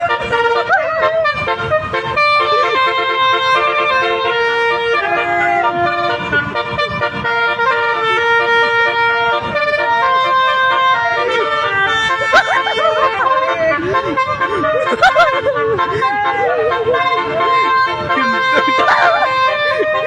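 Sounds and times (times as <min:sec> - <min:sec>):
bus horns playing a tune: 0:00.0 - 0:20.0
low engine rumble: 0:00.0 - 0:20.0.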